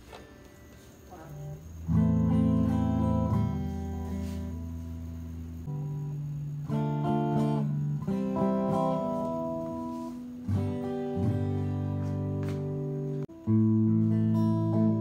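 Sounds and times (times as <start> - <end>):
clean bass guitar notes: 1.2 - 15.0.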